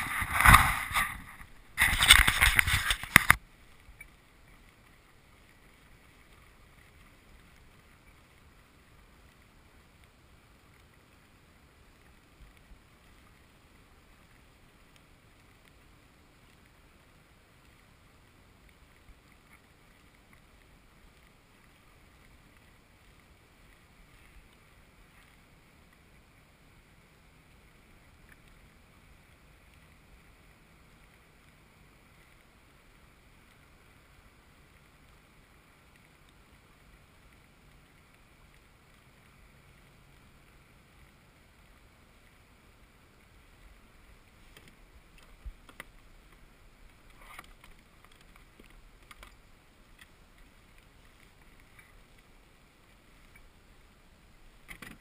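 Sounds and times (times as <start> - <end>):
wind: 0.0 - 55.0.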